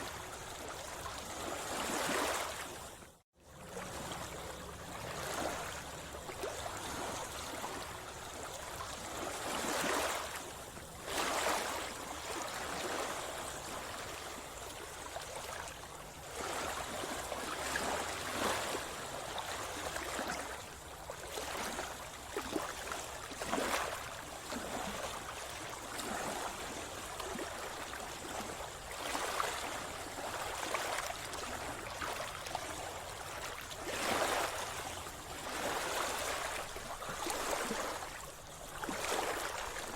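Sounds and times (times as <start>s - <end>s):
sea water sloshing and splashing: 0.0s - 39.9s.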